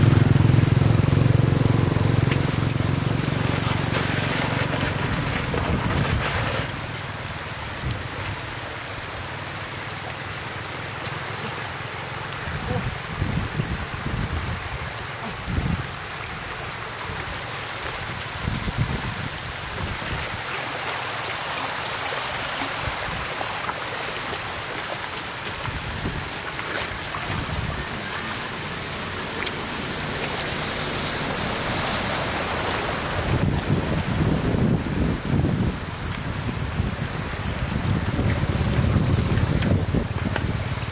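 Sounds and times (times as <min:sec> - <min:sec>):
shallow water rushing: 0:00.0 - 0:40.9.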